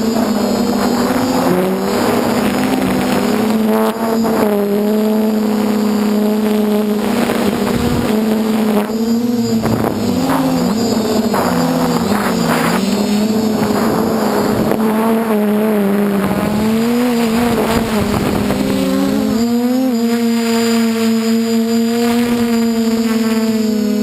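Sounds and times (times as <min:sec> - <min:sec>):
drone motors humming: 0:00.0 - 0:24.0.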